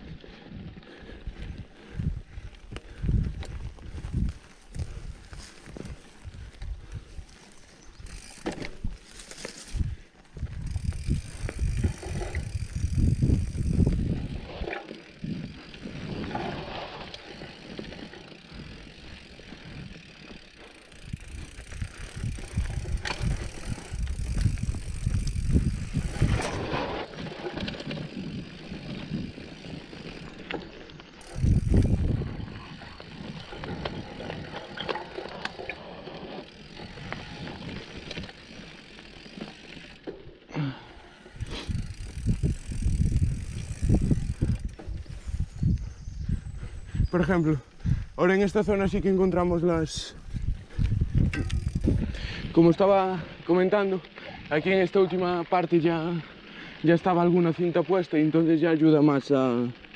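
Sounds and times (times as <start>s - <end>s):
bike rattling over bumps: 0.0s - 46.5s, 48.2s - 59.9s
bike tyres rolling on dirt: 0.0s - 59.9s.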